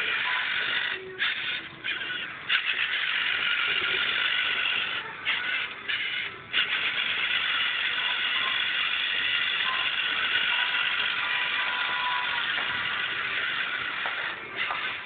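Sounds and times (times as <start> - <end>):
robot servo motors whining: 0.0 - 15.0.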